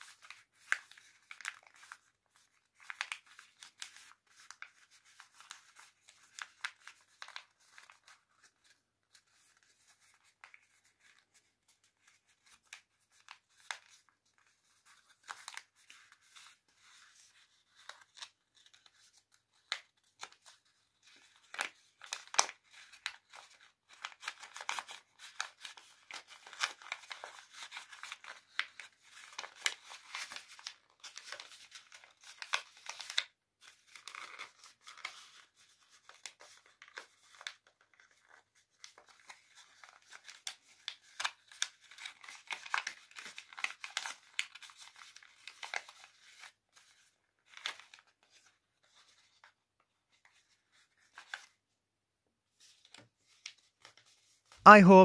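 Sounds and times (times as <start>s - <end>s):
paper crinkling and rustling: 0.0s - 51.8s, 52.5s - 54.6s.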